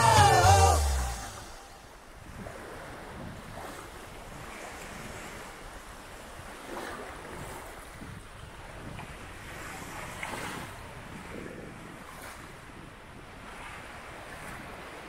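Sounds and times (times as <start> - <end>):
waves lapping on sandy beach: 0.0 - 15.0
wind buffeting microphone: 0.8 - 15.0.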